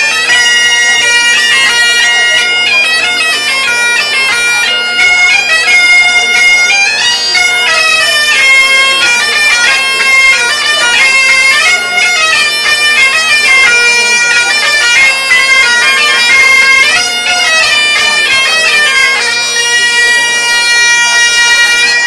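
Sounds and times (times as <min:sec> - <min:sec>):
bagpipes playing: 0:00.0 - 0:22.0
wooden flute playing: 0:00.0 - 0:22.0.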